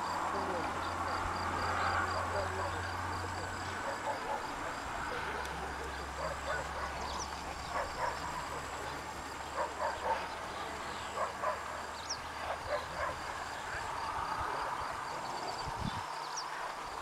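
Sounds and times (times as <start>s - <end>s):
high insect whine: 0.0s - 17.0s.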